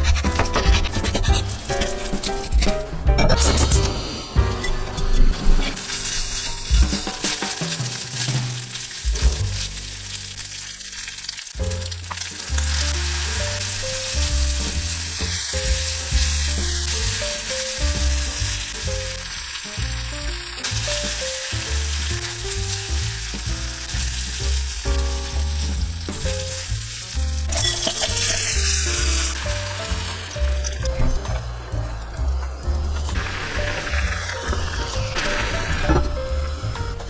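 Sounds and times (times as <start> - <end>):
background music with bass: 0.0 - 37.0
food sizzling in a pan: 3.4 - 37.0.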